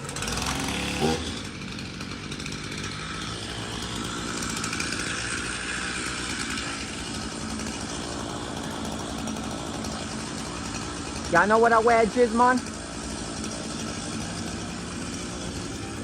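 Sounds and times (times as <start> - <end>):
gas chainsaw running: 0.0 - 16.0.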